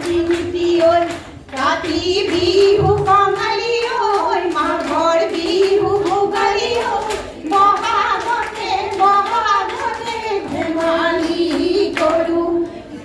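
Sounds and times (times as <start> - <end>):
hand claps: 0.0 - 12.4
women singing into microphones: 0.0 - 13.0.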